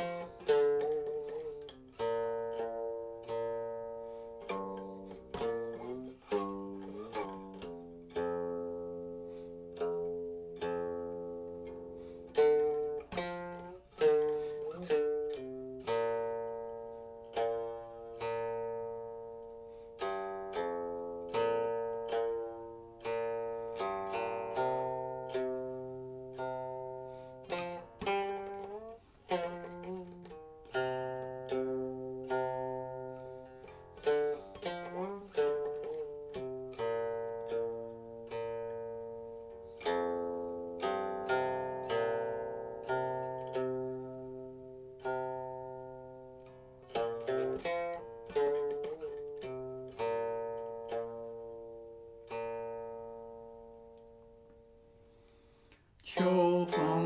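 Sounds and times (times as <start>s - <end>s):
plucked zither notes: 0.0s - 57.0s.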